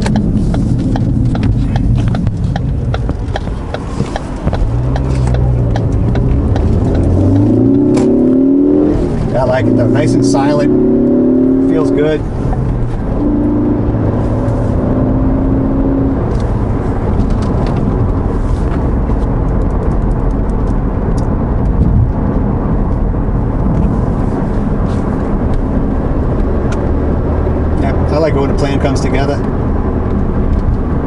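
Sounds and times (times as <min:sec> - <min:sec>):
car engine cruising: 0:00.0 - 0:31.0
tyre and road rumble: 0:00.0 - 0:31.0.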